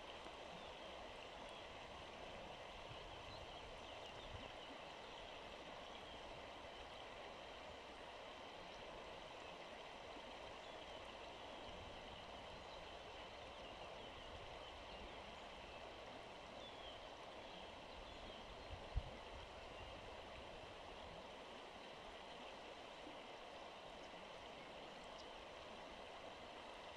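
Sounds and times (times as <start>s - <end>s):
river water flowing over stones: 0.0s - 26.9s.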